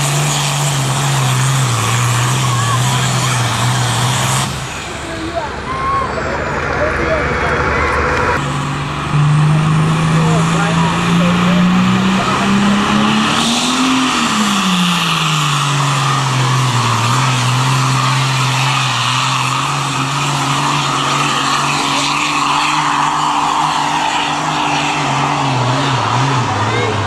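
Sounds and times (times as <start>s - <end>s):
diesel engine at full throttle: 0.0s - 27.0s.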